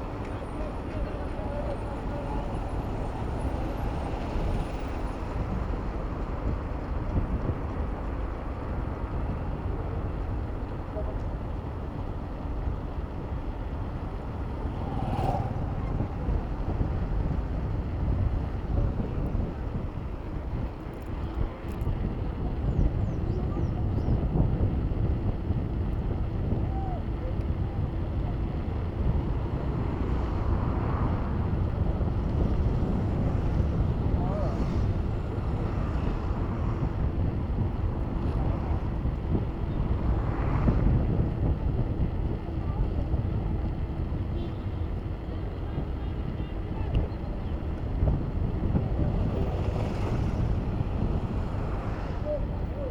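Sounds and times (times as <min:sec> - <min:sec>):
passing vehicle: 0:00.0 - 0:52.9
road traffic noise: 0:00.0 - 0:52.9
wind rumbling on microphone: 0:00.0 - 0:52.9.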